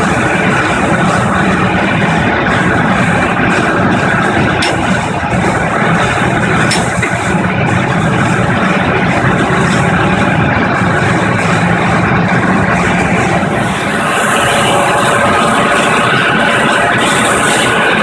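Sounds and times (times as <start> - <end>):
plastic granulator machine drone: 0.0 - 18.0.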